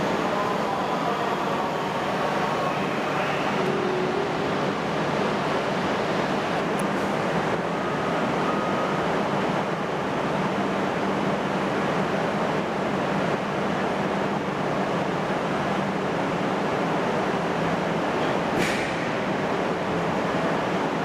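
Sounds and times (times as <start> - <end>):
train rushing: 0.0 - 21.0.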